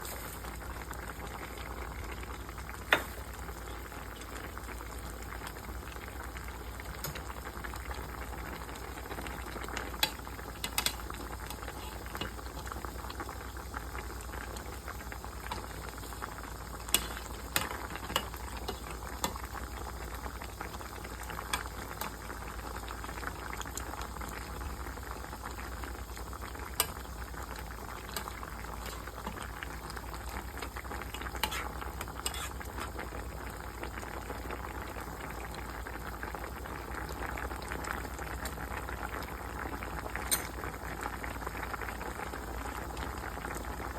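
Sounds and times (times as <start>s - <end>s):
stew bubbling in a pot: 0.0s - 43.9s.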